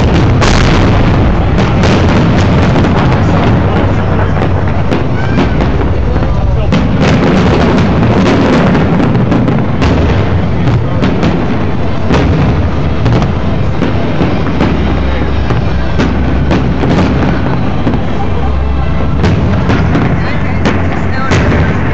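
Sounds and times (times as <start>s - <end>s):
continuous loud rumble: 0.0s - 21.9s
fireworks bursting with sharp bangs: 0.0s - 21.9s.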